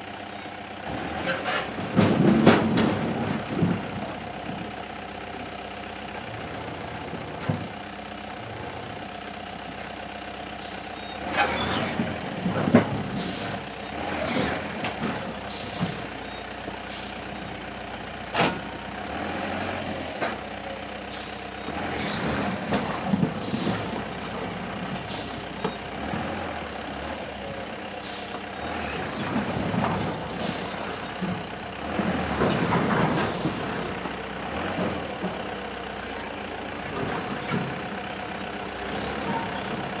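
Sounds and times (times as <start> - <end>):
diesel truck engine running: 0.0 - 40.0.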